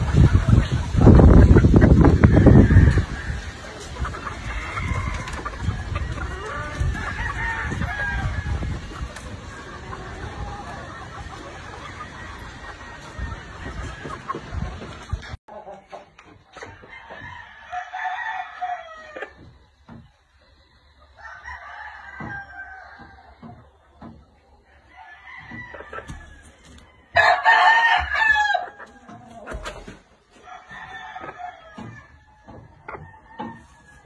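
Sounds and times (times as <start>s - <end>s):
roosters crowing: 0.0s - 15.4s, 16.6s - 34.0s.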